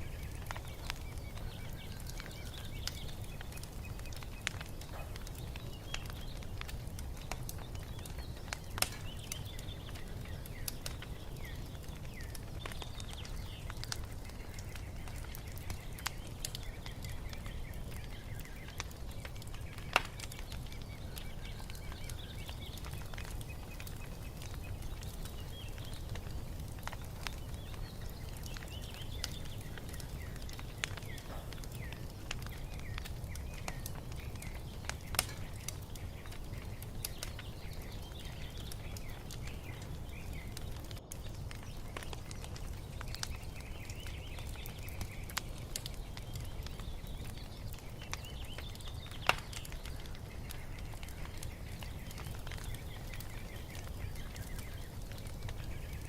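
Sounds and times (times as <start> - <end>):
small birds chirping: 0.0 - 56.0
wood fire crackling and popping: 0.0 - 56.0.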